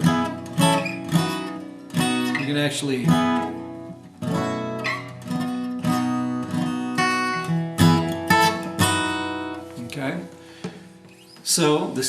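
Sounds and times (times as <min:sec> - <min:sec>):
acoustic guitar strummed chords: 0:00.0 - 0:11.5.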